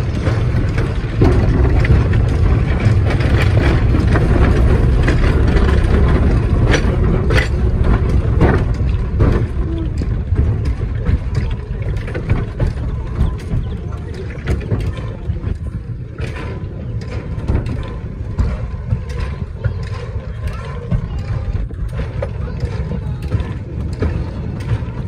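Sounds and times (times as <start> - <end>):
metallic clanks and knocks: 0.0 - 25.0
train wheels rumbling on rails: 0.0 - 25.0.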